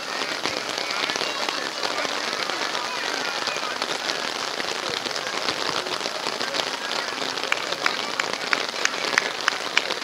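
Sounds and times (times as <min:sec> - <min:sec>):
rain pattering: 0:00.0 - 0:10.0.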